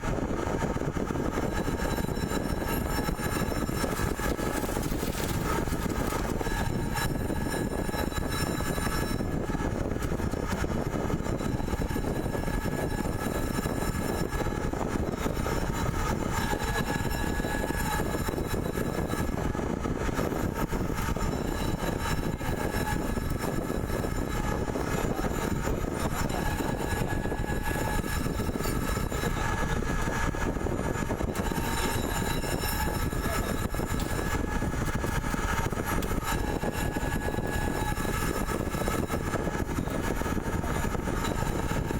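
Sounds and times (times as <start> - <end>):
faint high whine: 0.0 - 41.9
pipe-threading machine drone: 0.0 - 41.9.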